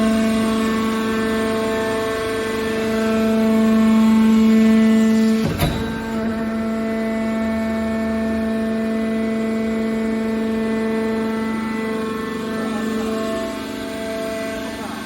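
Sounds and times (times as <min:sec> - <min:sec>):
hydraulic power unit whining hum: 0:00.0 - 0:15.0.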